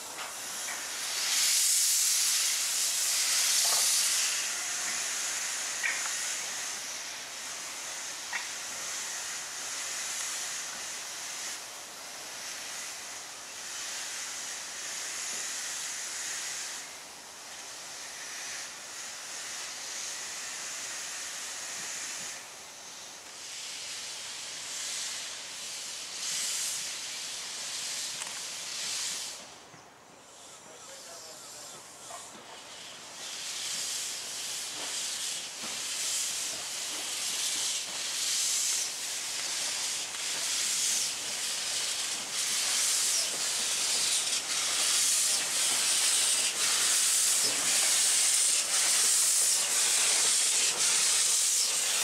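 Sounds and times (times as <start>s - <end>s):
steam locomotive hissing: 0.0s - 52.0s.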